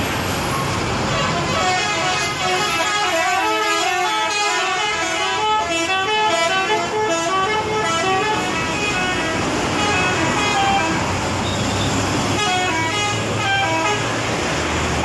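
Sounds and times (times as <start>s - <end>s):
bus horn playing a tune: 1.1s - 11.7s, 12.3s - 14.3s.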